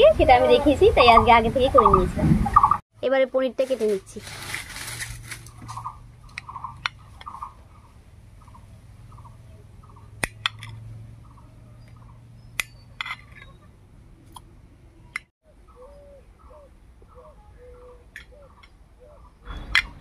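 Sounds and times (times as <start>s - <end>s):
bird calling: 0.4s - 2.8s, 5.4s - 20.0s.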